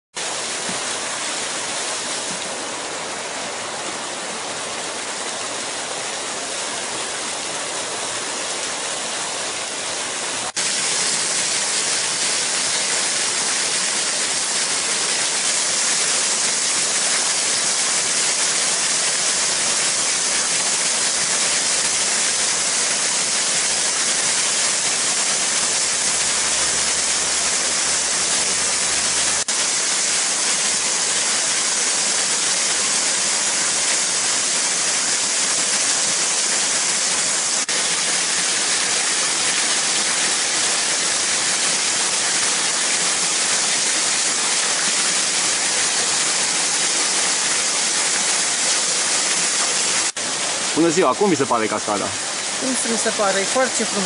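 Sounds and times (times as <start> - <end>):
waterfall splashing into a pool: 0.2 - 54.0.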